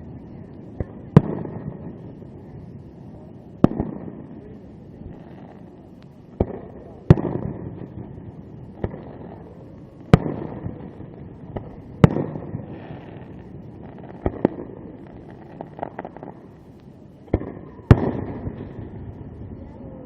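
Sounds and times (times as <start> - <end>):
fireworks bangs: 0.0 - 20.0
crackling pops: 0.7 - 2.4, 3.5 - 19.4.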